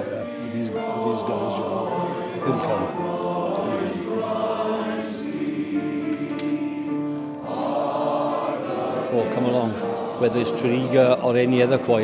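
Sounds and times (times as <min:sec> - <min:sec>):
male choir singing: 0:00.0 - 0:12.0.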